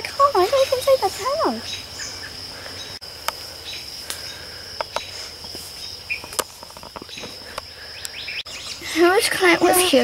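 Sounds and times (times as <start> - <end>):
bird chirp: 0.0 - 9.9
insects trilling: 0.0 - 10.0.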